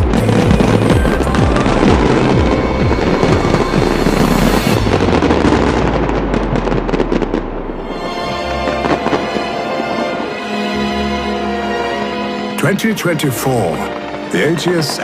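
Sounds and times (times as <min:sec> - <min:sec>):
fireworks bursting and crackling: 0:00.0 - 0:15.0
music: 0:00.0 - 0:15.0.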